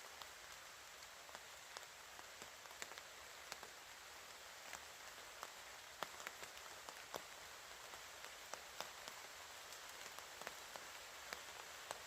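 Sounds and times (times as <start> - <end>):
rain pattering on a tarp: 0.0 - 12.0.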